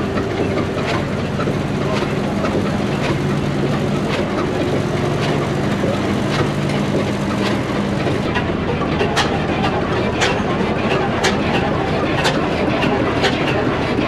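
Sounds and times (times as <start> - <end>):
stationary engine running slowly: 0.0 - 14.0.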